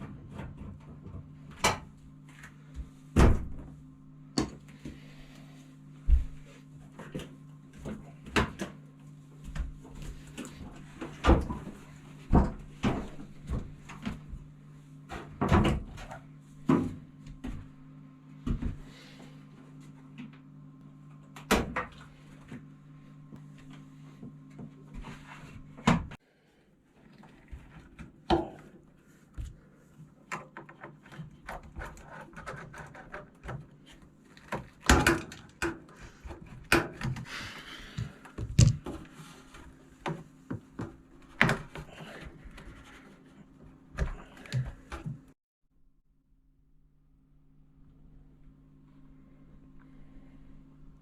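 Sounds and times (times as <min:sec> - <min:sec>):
steady low hum: 0:00.0 - 0:45.4, 0:46.4 - 0:51.0.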